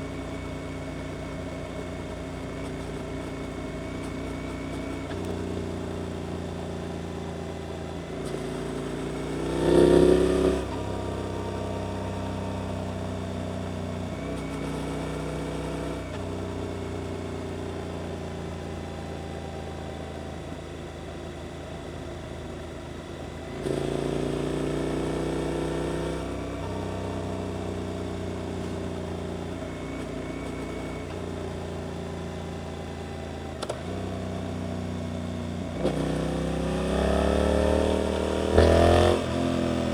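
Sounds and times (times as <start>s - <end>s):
motorcycle engine revving: 0.0s - 16.8s, 23.5s - 39.9s.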